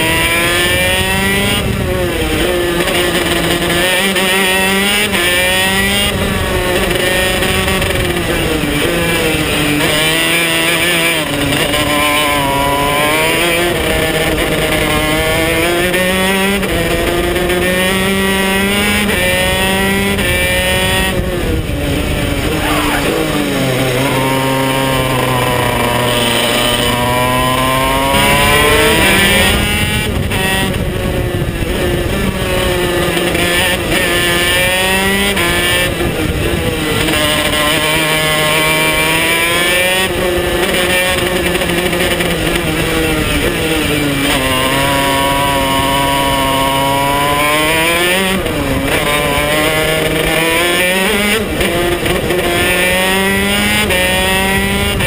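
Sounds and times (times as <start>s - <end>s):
kart two-stroke engine revving: 0.0s - 55.0s.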